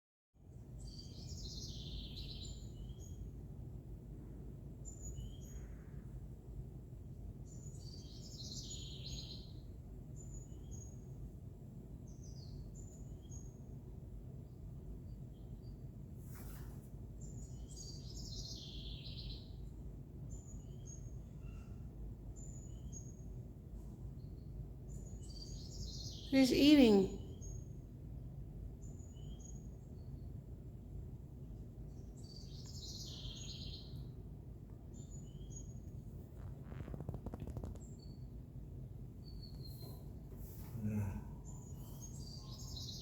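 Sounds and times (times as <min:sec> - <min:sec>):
songbirds chirping: 0:00.5 - 0:43.0.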